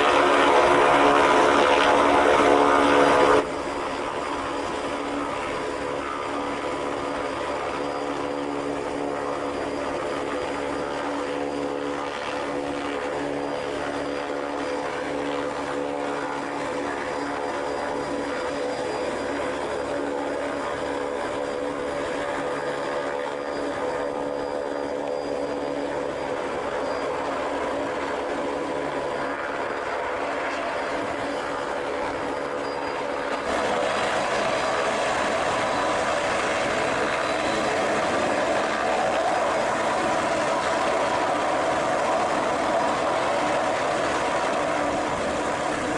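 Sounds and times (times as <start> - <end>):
turboprop engines droning: 0.0 - 45.9.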